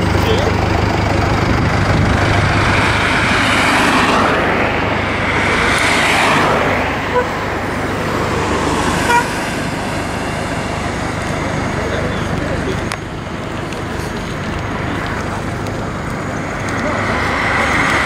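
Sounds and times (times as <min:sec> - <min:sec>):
low engine hum: 0:00.0 - 0:18.0
road traffic noise: 0:00.0 - 0:18.0
vehicle passing: 0:00.0 - 0:18.0.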